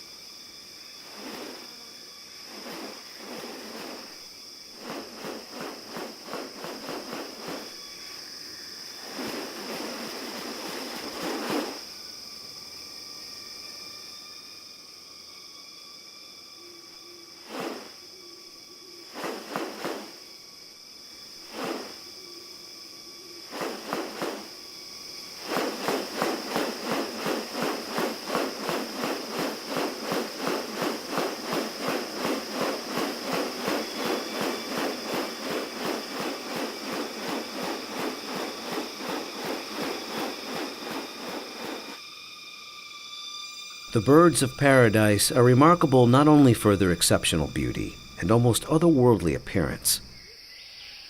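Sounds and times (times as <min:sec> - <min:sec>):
high-pitched insect tones: 0:00.0 - 0:51.0.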